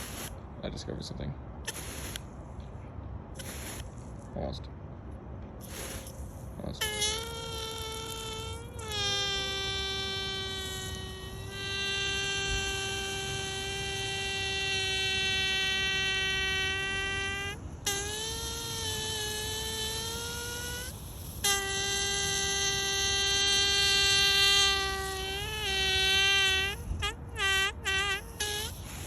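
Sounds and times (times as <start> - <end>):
water hose buzzing: 0.0 - 0.4, 1.7 - 2.3, 3.4 - 4.1, 5.6 - 29.0.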